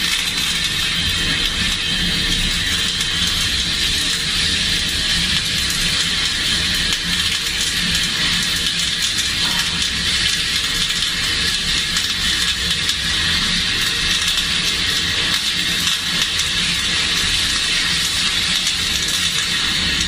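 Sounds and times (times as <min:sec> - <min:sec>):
welding arc crackling hiss: 0:00.0 - 0:20.0.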